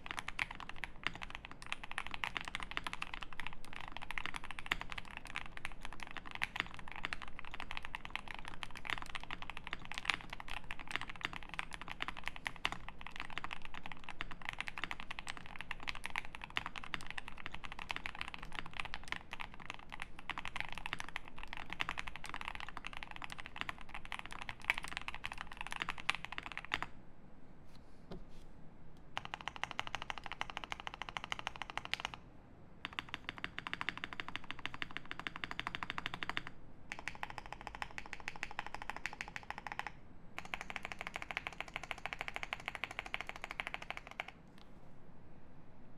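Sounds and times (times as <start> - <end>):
mechanical keyboard typing: 0.0 - 26.9, 29.2 - 32.2, 32.8 - 44.4.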